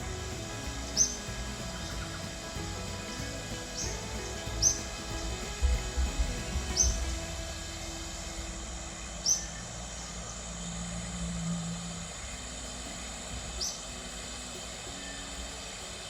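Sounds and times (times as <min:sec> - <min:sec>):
bird chirping: 0:00.0 - 0:16.0
flowing creek: 0:00.0 - 0:16.0.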